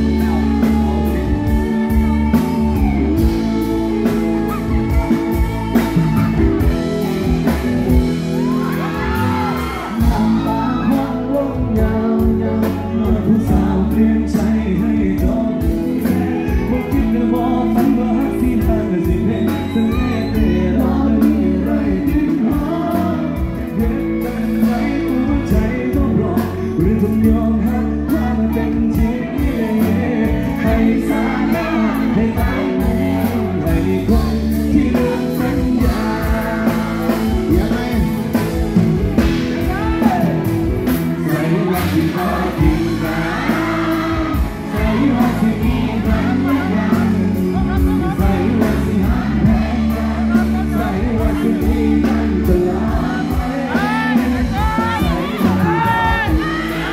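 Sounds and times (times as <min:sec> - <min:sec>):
crowd shouting and whooping: 0:00.0 - 0:56.9
live band with electric guitar: 0:00.0 - 0:56.9
man singing: 0:00.0 - 0:56.9.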